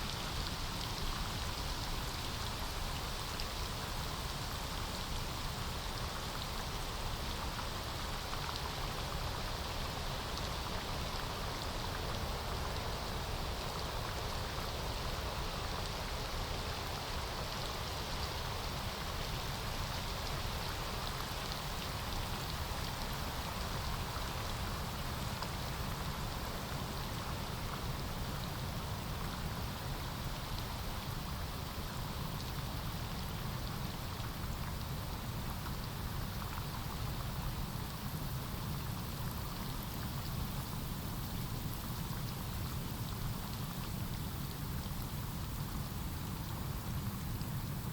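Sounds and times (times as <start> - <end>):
rain falling on foliage: 0.0 - 47.9.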